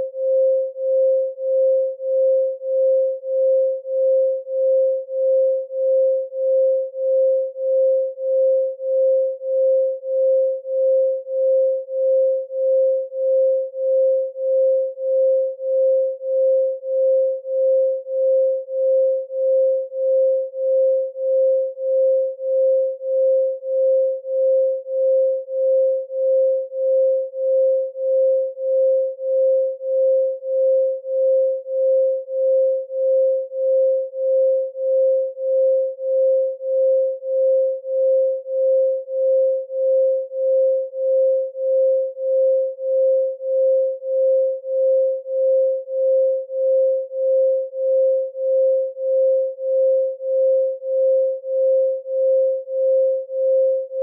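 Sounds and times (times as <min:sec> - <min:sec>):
pulsing sine tone: 0:00.0 - 0:54.0.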